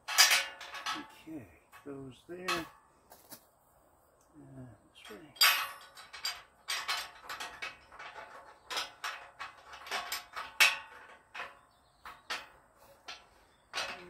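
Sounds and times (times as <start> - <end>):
metal bolts clinking on steel: 0.0 - 2.8, 5.0 - 14.0.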